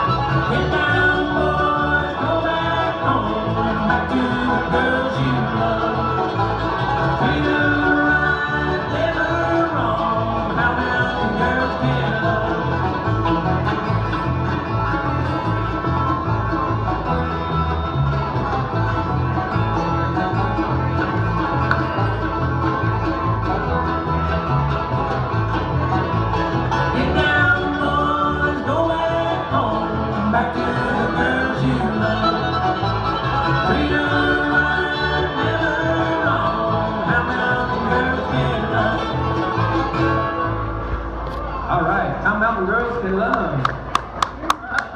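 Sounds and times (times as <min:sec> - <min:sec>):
banjo: 0:00.0 - 0:41.7, 0:43.3 - 0:44.9
guitar: 0:00.0 - 0:44.9.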